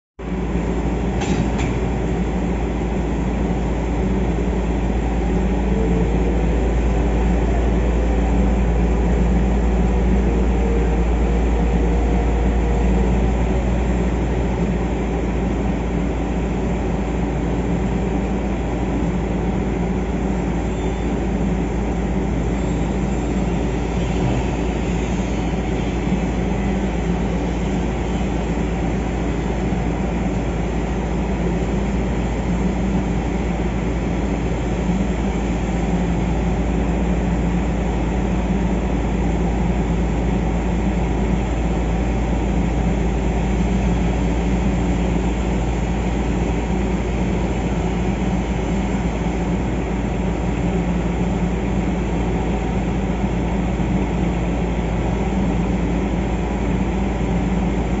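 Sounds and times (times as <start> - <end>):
drilling rig machinery drone: 0.2 - 58.0.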